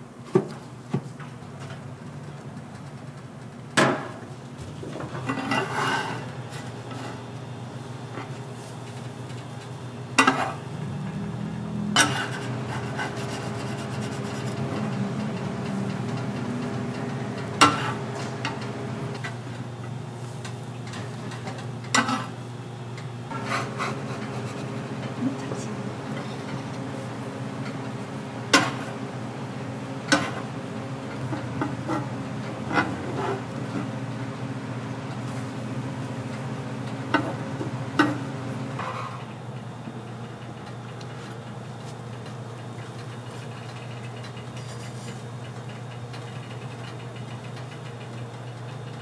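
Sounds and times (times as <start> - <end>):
steady low hum: 4.4 - 47.7.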